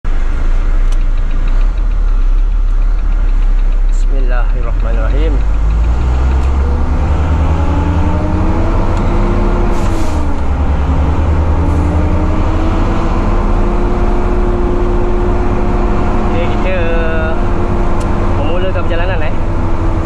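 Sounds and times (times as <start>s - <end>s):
truck diesel engine rumbling: 0.0s - 20.0s.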